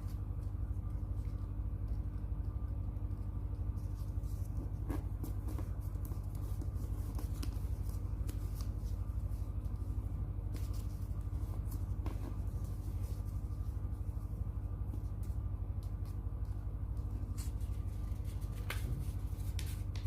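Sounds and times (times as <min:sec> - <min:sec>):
steady low hum: 0:00.0 - 0:20.0
paper being folded and creased: 0:03.8 - 0:20.0.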